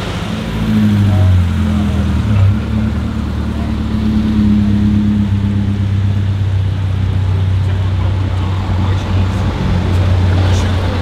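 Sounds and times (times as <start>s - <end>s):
car exhaust drone at low revs: 0.0s - 11.0s.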